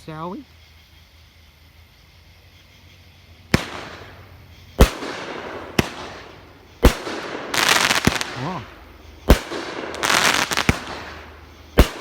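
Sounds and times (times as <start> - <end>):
fireworks bangs with hiss: 0.0 - 12.0.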